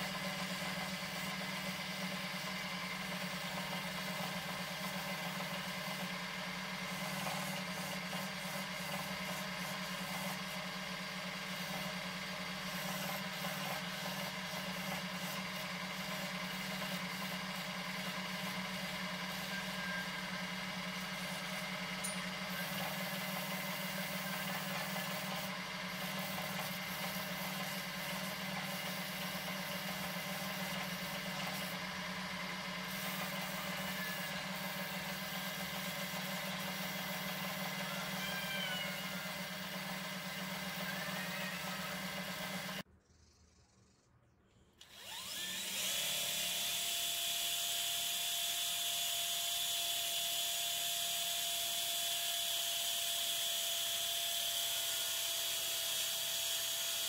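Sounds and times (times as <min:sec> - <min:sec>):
rotary tool sanding wood: 0:00.0 - 0:42.8, 0:44.9 - 0:57.0.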